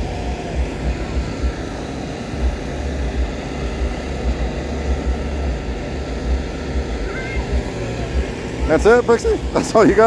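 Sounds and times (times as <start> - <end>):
faint outdoor crowd hubbub: 0.0 - 10.0.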